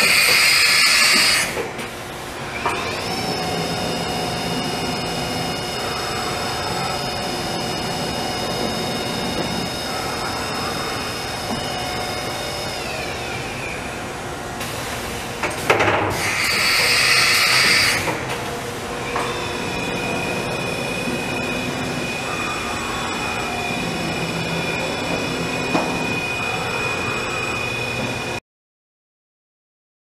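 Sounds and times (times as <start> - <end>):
machine high whine: 0.0 - 28.4.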